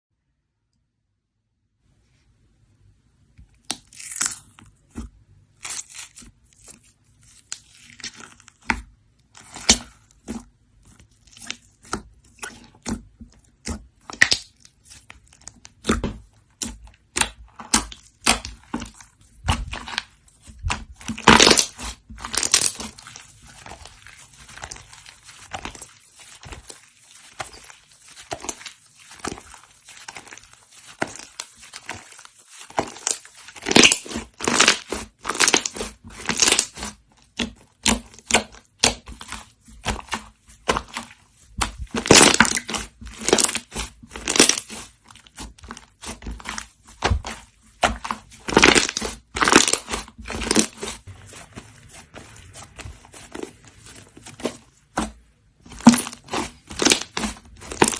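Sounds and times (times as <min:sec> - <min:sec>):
slime squelching by hand: 0:03.4 - 0:57.9.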